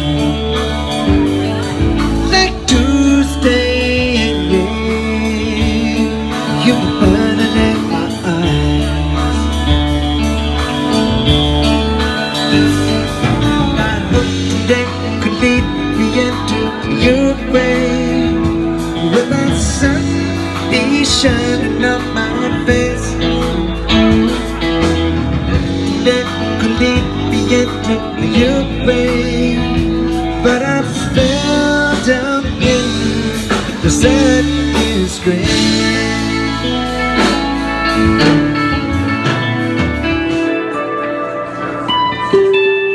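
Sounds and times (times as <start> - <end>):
man singing: 0.0 - 39.4
drum kit: 0.0 - 42.9
electric bass: 0.0 - 42.9
electric guitar: 0.0 - 42.9.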